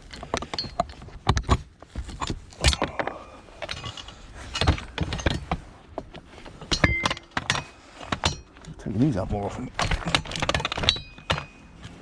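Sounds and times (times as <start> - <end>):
metallic clanks and rattles: 0.0 - 12.0.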